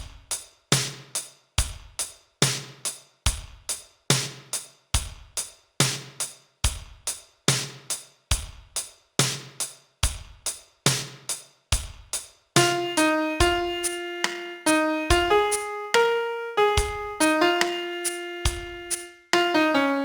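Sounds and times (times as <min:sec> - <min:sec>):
programmed drum beat: 0:00.0 - 0:19.9.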